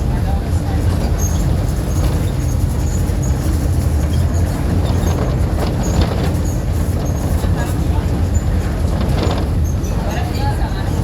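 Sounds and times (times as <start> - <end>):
bus engine rumbling: 0.0 - 11.0
light rattles: 0.5 - 11.0.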